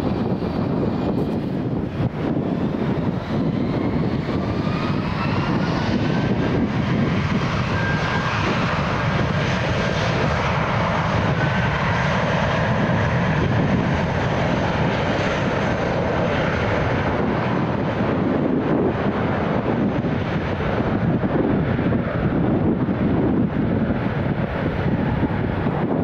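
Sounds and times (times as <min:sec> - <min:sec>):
jet airliner taking off: 0:00.0 - 0:26.0.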